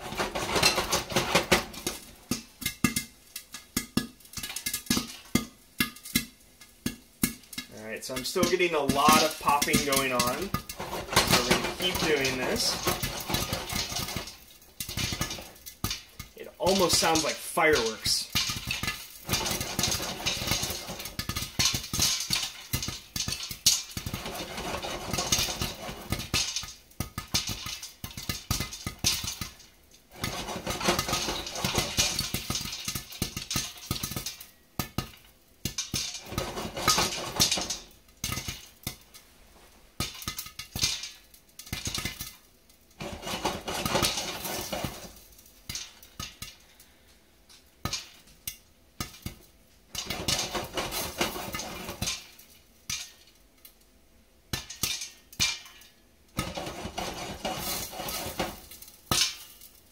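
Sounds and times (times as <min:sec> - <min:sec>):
popcorn popping in a pot: 0:00.0 - 0:59.9
pot rattling on burner grate: 0:00.0 - 0:59.9.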